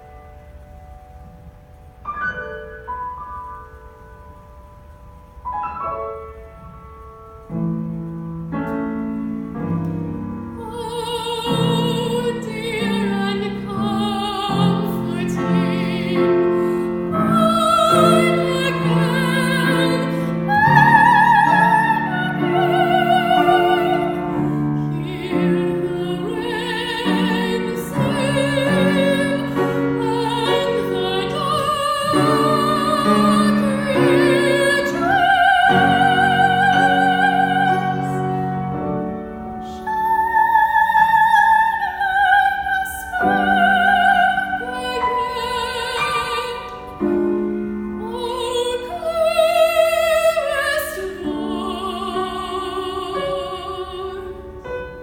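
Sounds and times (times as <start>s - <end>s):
piano accompaniment: 0.0s - 55.0s
soprano singing with vibrato: 9.0s - 55.0s.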